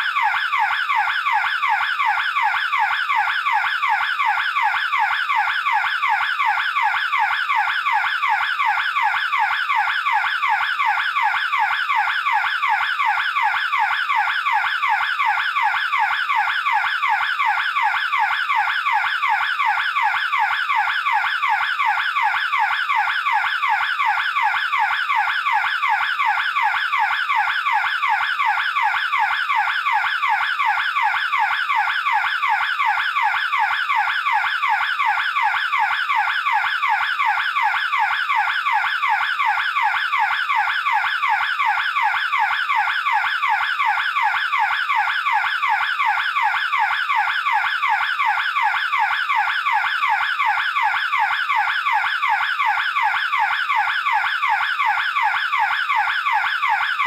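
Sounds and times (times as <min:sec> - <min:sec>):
burglar alarm siren: 0:00.0 - 0:57.0.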